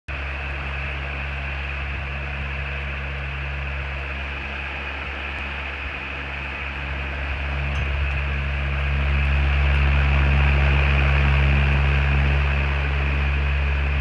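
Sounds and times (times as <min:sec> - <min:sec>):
electric fan running: 0:00.1 - 0:14.0.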